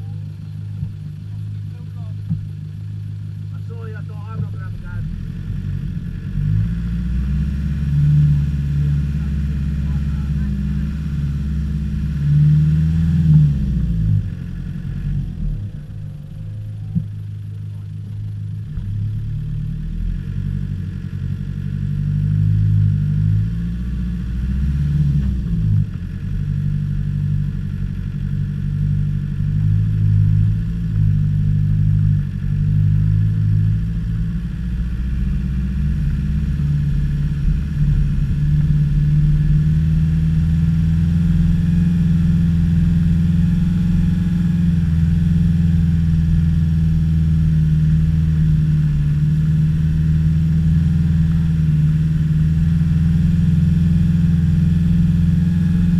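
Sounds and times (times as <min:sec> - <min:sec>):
off-road vehicle engine: 0:00.0 - 0:55.9.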